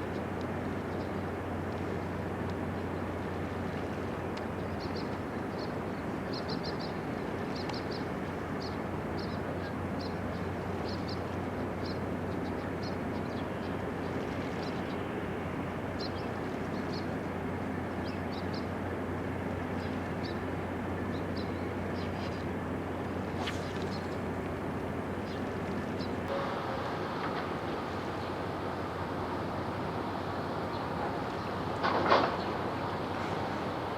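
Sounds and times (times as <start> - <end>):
ship engines humming: 0.0 - 33.9.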